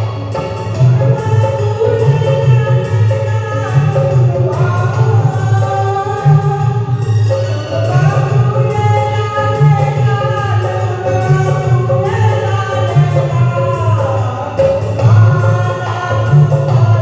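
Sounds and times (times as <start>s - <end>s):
devotional singing: 0.0s - 17.0s.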